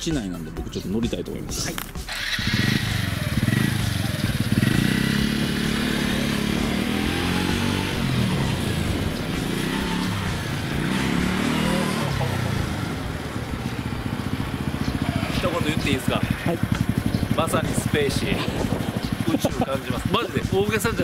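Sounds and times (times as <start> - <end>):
scooter engine revving: 1.7 - 21.0.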